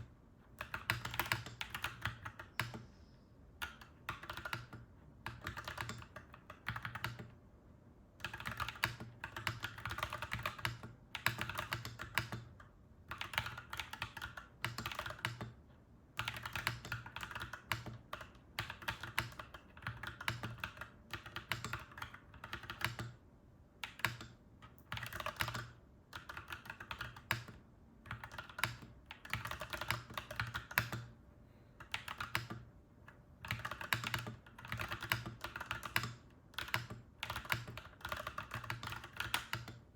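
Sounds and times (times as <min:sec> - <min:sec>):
mechanical keyboard typing: 0:00.6 - 0:02.8, 0:03.6 - 0:07.4, 0:08.2 - 0:15.6, 0:16.2 - 0:23.2, 0:23.8 - 0:31.1, 0:31.8 - 0:39.9.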